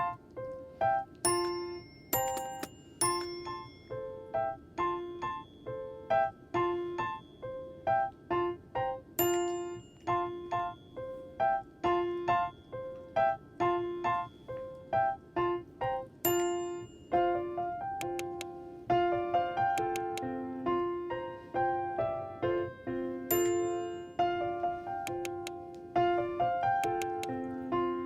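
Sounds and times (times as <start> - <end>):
bouncy keyboard melody: 0.0 - 28.0.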